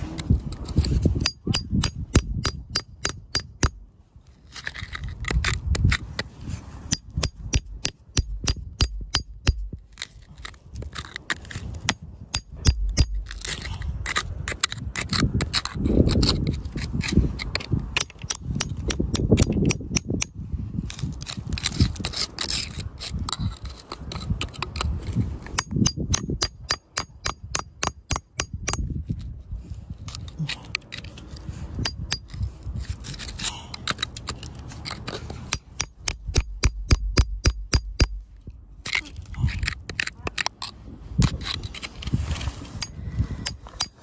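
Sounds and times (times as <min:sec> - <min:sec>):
metal pick scraping soil: 0:00.0 - 0:44.0.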